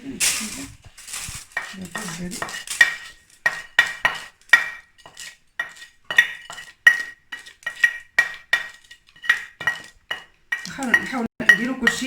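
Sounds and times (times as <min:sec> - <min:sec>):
metal spoon clinking on pan: 0:01.0 - 0:12.0.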